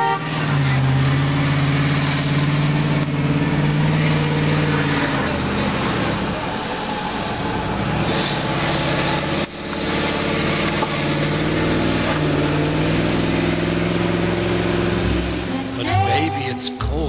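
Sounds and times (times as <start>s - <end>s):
vehicle engines droning: 0.0s - 17.0s.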